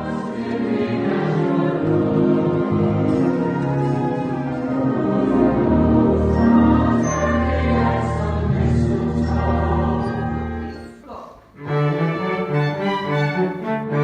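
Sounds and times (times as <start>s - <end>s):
choir singing: 0.0s - 11.0s, 11.6s - 14.0s.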